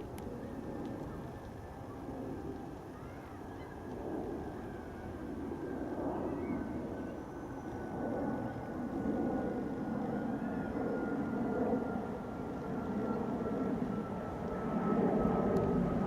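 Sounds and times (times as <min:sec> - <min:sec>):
jet engines rumbling at takeoff: 0:00.0 - 0:16.0
thin steady whine: 0:00.0 - 0:16.0.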